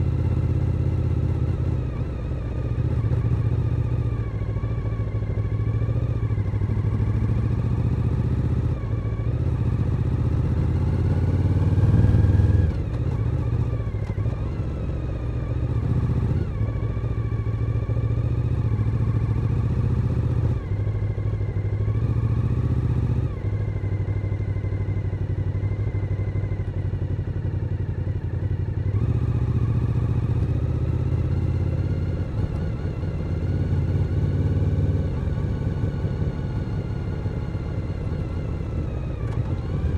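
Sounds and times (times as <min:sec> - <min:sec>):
motorcycle engine revving: 0:00.0 - 0:23.5, 0:28.8 - 0:39.9.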